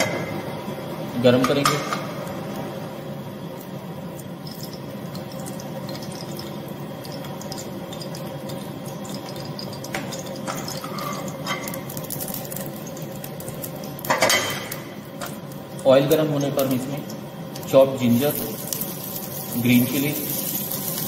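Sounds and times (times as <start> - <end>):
gas burner hiss and hum: 0.0 - 21.0.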